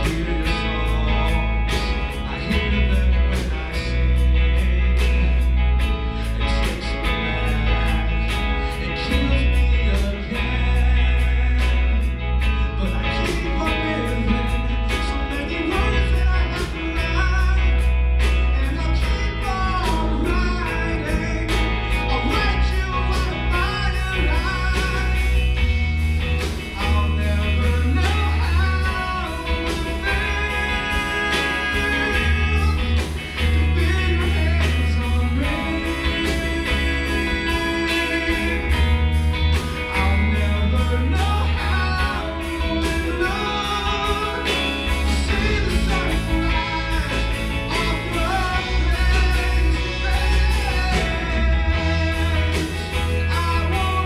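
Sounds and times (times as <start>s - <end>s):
lead vocal through microphone: 0.0s - 25.8s, 26.4s - 54.0s
bass guitar: 0.0s - 54.0s
drum kit beat: 0.0s - 54.0s
electric guitars: 0.0s - 54.0s.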